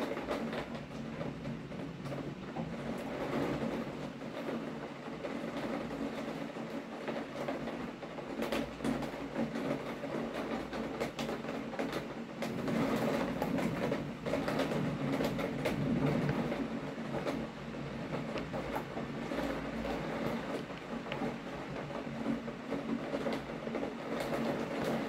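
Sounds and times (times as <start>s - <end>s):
raindrops tapping: 0.0s - 25.0s
steady rain hiss: 0.0s - 25.0s.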